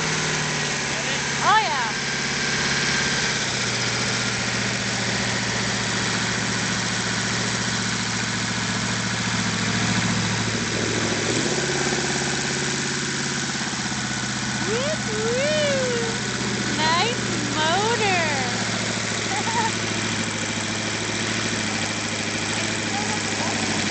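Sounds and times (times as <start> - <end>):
boat engine idling: 0.0 - 23.9.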